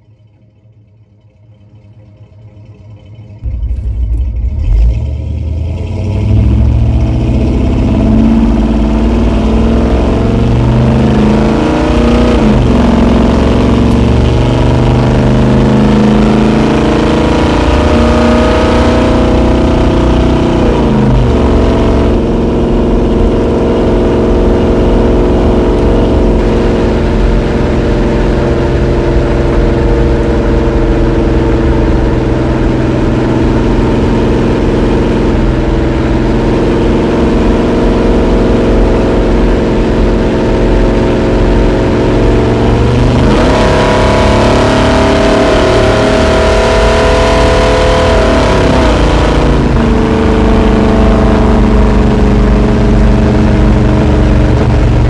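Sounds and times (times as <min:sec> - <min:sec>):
engine accelerating: 0:00.0 - 0:55.0.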